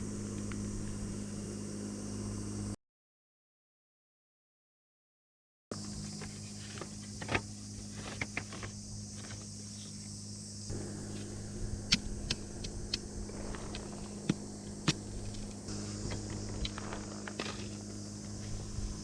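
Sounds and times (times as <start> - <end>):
steady low hum: 0.0 - 2.8, 5.8 - 19.0.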